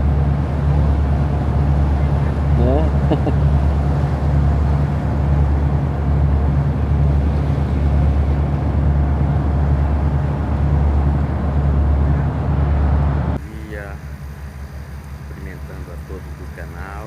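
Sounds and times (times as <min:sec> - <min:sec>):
boat engine droning: 0:00.0 - 0:17.0
wash of noise: 0:00.0 - 0:17.0.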